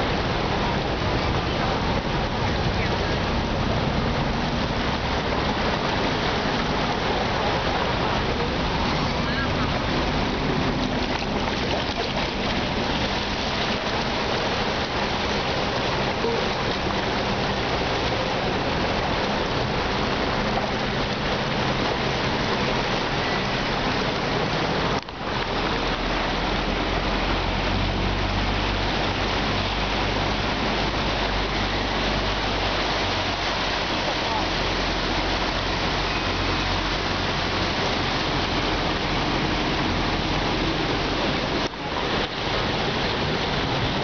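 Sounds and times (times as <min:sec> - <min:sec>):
bus engine hum: 0:00.0 - 0:44.0
floodwater rushing and splashing: 0:00.0 - 0:44.0.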